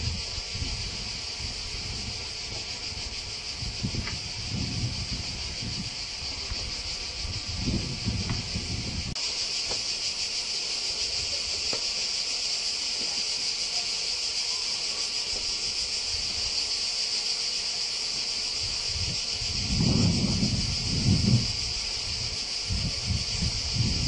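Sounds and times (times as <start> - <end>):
cicadas chorus: 0.0 - 24.0.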